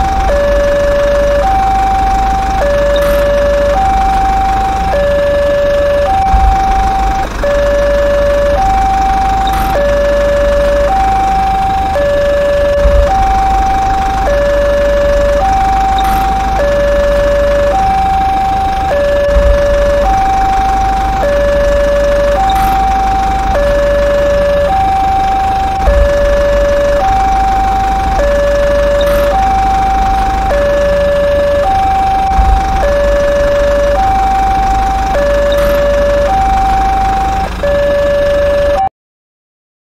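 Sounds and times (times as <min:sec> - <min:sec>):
low engine rumble: 0:00.0 - 0:38.9
two-tone emergency siren: 0:00.0 - 0:38.9.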